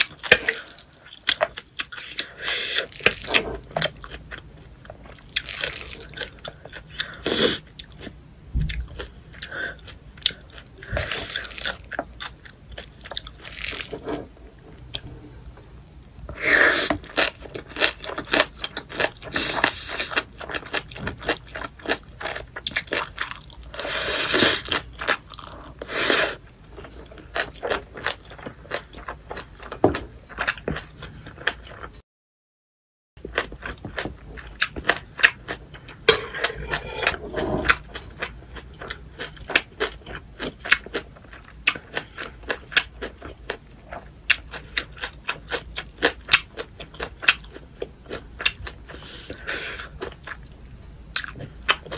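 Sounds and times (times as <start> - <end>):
wet chewing and crunching: 0.0 - 15.0, 15.6 - 25.9, 33.2 - 51.9.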